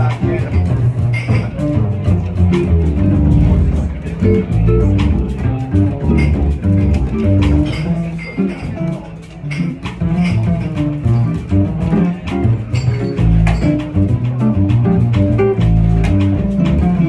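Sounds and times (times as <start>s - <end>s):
bass line: 0.0s - 8.1s, 10.0s - 17.0s
jazz guitar plucked: 0.0s - 17.0s.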